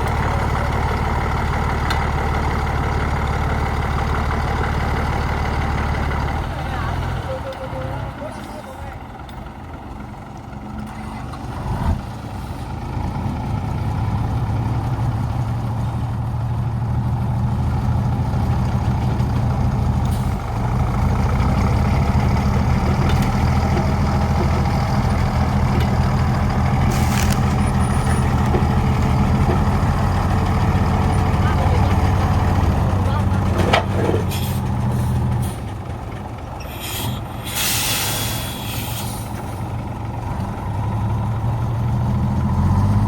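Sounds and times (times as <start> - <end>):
heavy truck engine running: 0.0 - 43.0.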